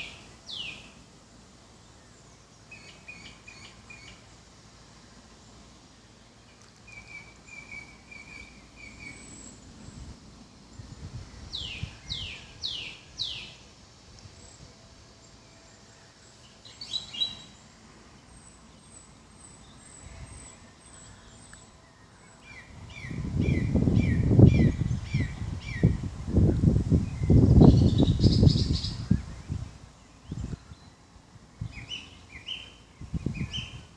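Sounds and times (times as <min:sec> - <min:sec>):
birds singing: 0:00.0 - 0:04.4, 0:06.2 - 0:13.7, 0:14.4 - 0:33.9.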